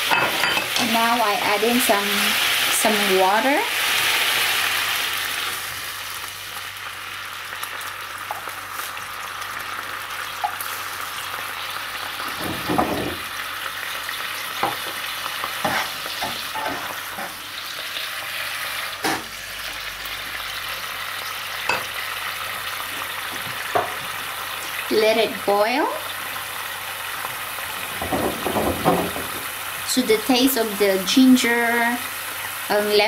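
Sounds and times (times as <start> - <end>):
sauce sizzling in a pan: 0.0 - 33.0.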